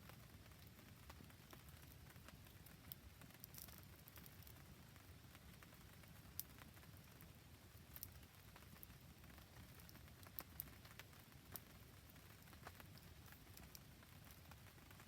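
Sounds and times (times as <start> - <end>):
campfire crackling: 0.0 - 15.0
faint rain patter: 0.0 - 15.0.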